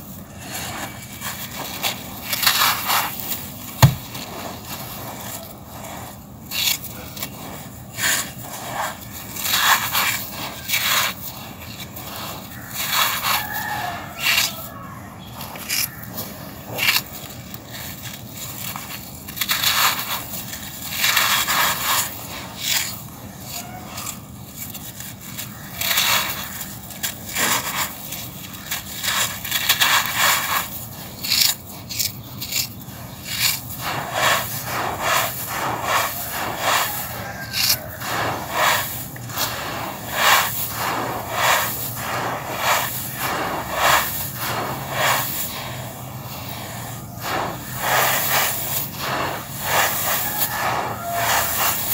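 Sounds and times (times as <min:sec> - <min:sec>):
fingers scraping through sand: 0:00.0 - 0:51.9
hands crunching dry sand: 0:00.0 - 0:51.9.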